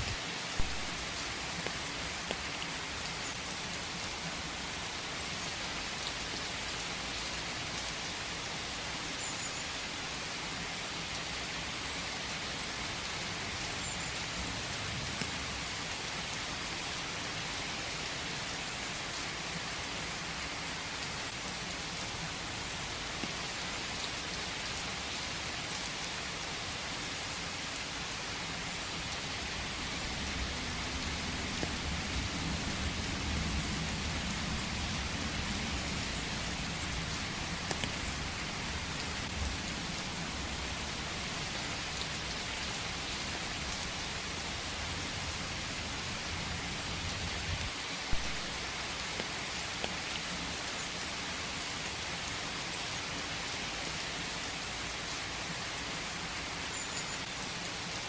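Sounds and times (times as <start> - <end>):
steady rain in forest: 0.0 - 58.0.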